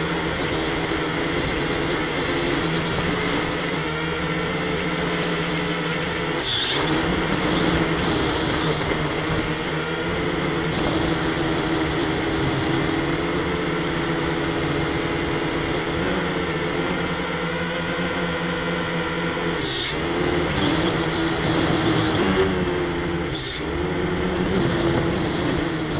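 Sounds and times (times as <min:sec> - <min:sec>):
toy drone propellers whining: 0:00.0 - 0:25.9.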